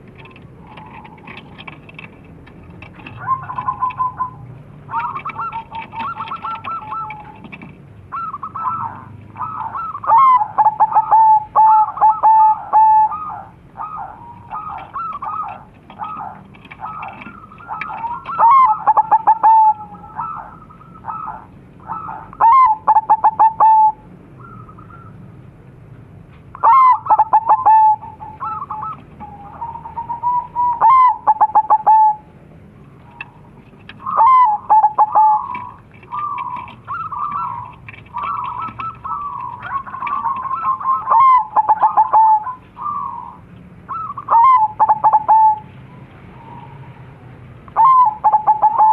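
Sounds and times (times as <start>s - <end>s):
doves cooing: 0.0s - 25.4s, 26.5s - 48.9s.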